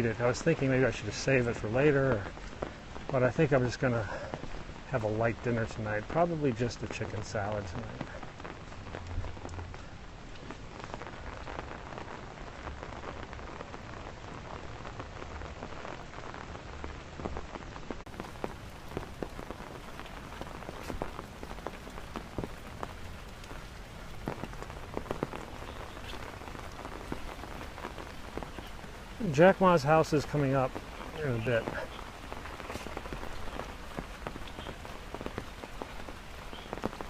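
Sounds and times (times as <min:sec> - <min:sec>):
heavy rain falling: 0:00.0 - 0:37.0
raindrops hitting close by: 0:00.0 - 0:37.0.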